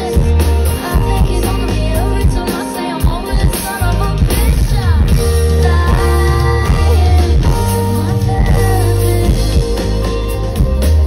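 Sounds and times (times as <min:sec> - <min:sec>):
bass and drum kit: 0:00.0 - 0:11.0
electric guitar: 0:00.0 - 0:11.0.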